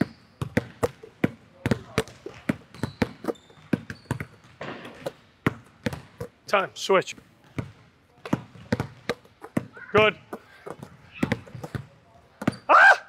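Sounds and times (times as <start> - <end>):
basketball bouncing on hardwood: 0.4 - 6.4, 7.4 - 12.7.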